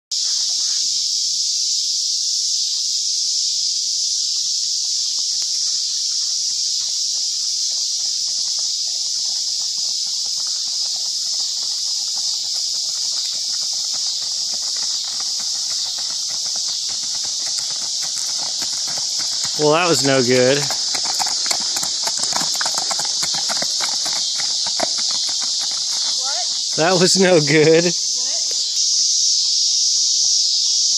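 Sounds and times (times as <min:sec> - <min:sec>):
insects droning: 0:00.1 - 0:30.9
hoofbeats on gravel: 0:04.1 - 0:30.2.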